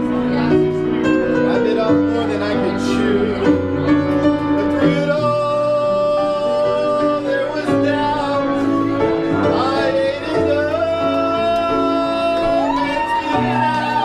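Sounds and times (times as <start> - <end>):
instrumental backing music: 0.0 - 14.0
man singing into a microphone: 1.1 - 14.0.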